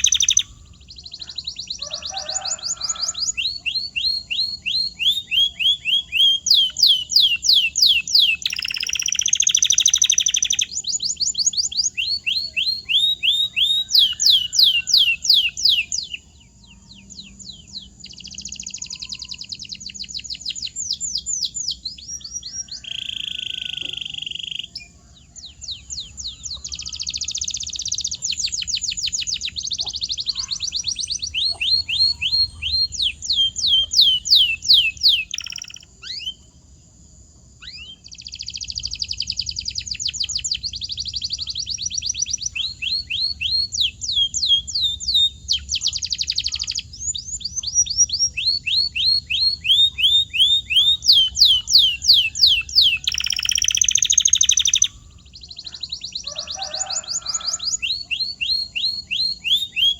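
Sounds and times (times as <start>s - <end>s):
canary singing: 0.0s - 36.6s, 37.6s - 59.9s.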